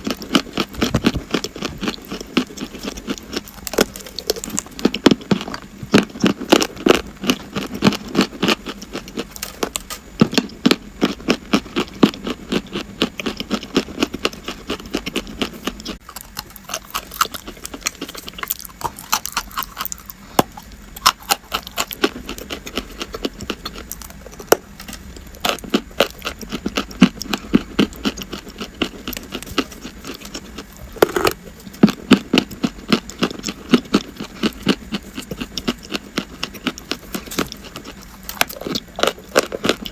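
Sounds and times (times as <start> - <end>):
chalk being crunched and chewed: 0.0 - 39.9.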